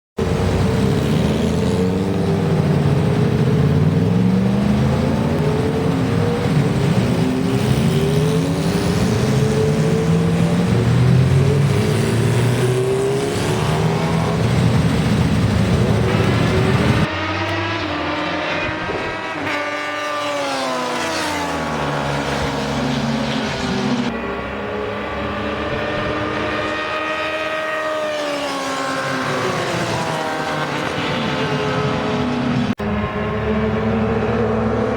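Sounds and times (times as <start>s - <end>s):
engine accelerating: 0.2s - 34.9s
superbike engines revving: 0.2s - 34.9s.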